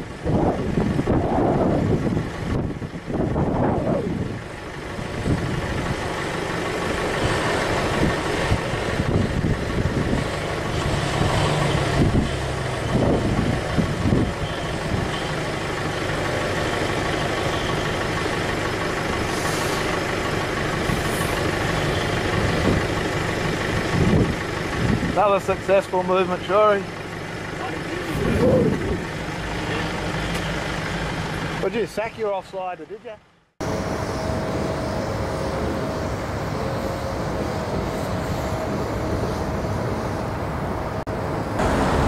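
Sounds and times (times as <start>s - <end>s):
rushing noise: 0.0s - 26.7s, 27.6s - 31.9s, 33.6s - 42.0s
truck diesel engine running: 0.0s - 42.0s.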